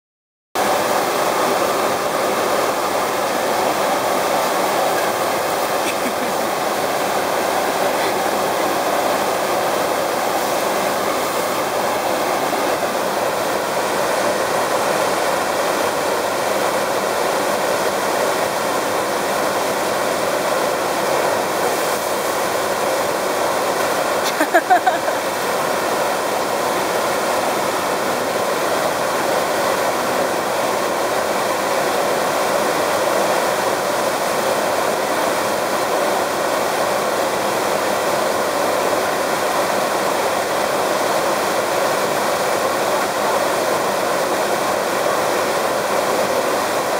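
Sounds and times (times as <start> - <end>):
water rushing: 0.6 - 46.9.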